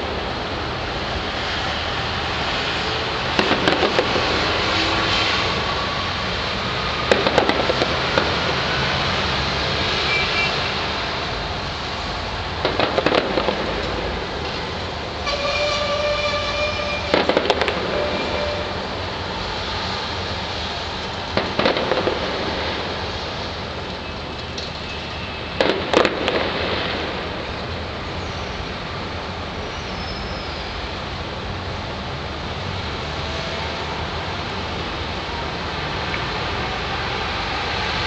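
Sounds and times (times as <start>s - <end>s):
fireworks crackling: 0.0s - 29.7s, 33.6s - 38.0s.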